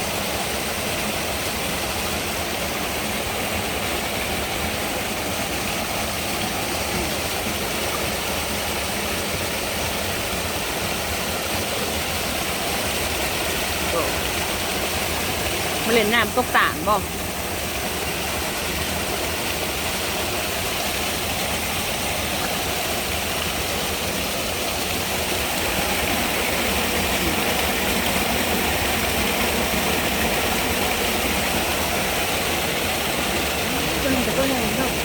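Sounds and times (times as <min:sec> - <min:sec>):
floodwater rushing over drop: 0:00.0 - 0:35.0.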